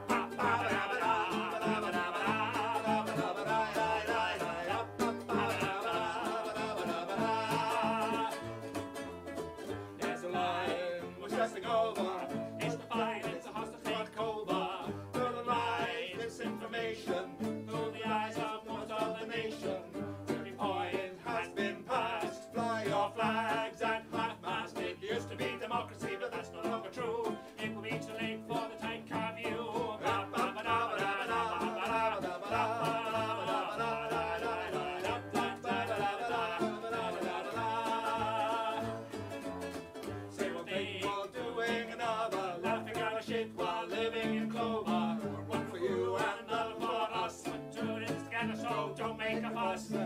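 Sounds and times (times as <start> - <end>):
man and woman singing: 0.0 - 8.9, 10.0 - 50.0
plucked cello: 0.0 - 50.0
strummed ukulele: 0.0 - 50.0.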